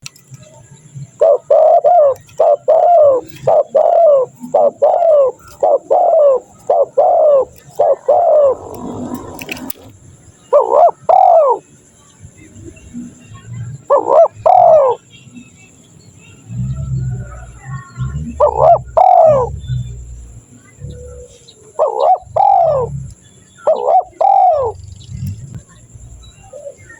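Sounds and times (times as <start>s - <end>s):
dove cooing: 1.1s - 11.7s, 13.7s - 15.0s, 16.5s - 26.9s.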